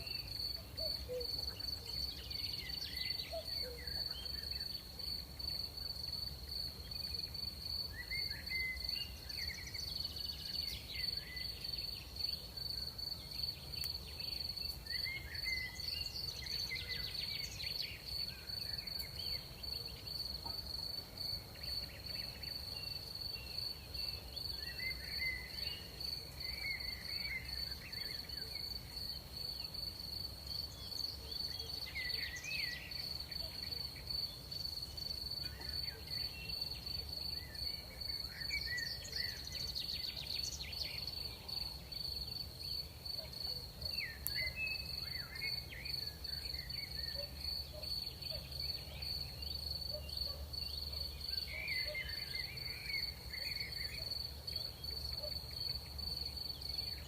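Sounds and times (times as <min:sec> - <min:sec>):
crickets trilling: 0:00.0 - 0:57.0
insects chirping: 0:00.0 - 0:57.0.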